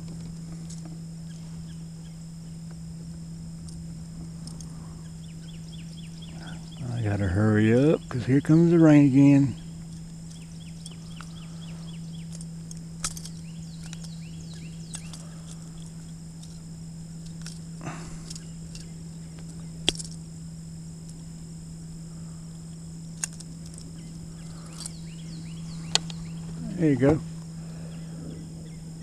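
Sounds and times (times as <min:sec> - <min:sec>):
constant low hum: 0:00.0 - 0:29.0
insect chorus: 0:00.0 - 0:29.0.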